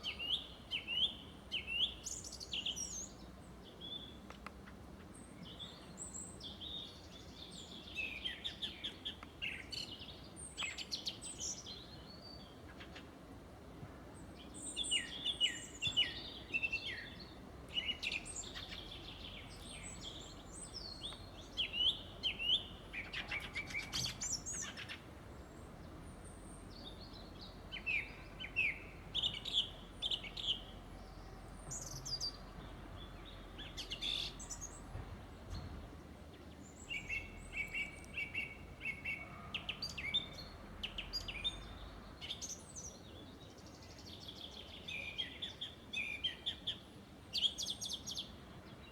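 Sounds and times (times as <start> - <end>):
songbirds singing and calling: 0.0 - 48.9.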